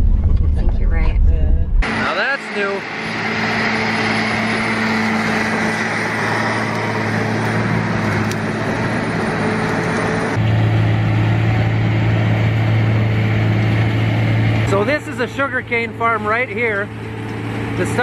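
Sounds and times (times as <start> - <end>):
diesel engine hum: 0.0 - 18.0
machinery noise: 1.8 - 18.0.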